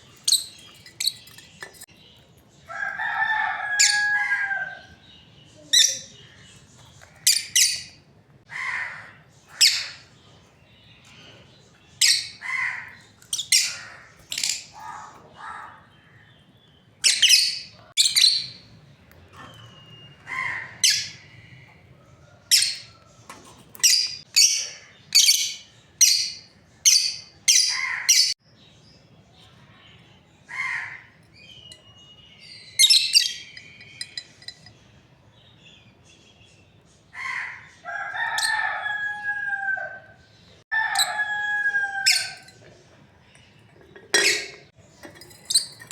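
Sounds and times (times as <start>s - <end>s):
lovebirds chirping: 0.0s - 45.9s.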